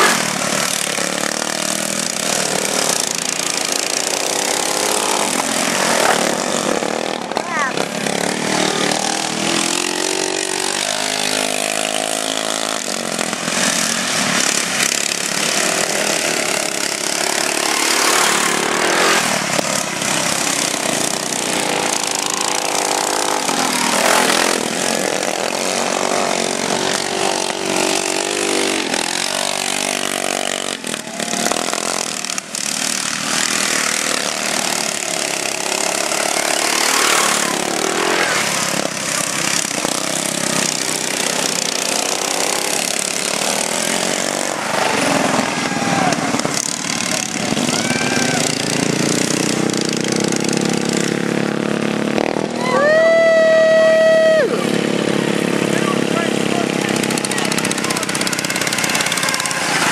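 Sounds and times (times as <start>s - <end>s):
small engines revving: 0.0s - 59.9s.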